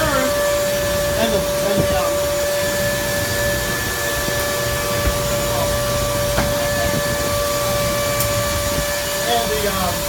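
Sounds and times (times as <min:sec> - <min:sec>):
constant machine whine: 0:00.0 - 0:10.0
mill machinery drone: 0:00.0 - 0:10.0.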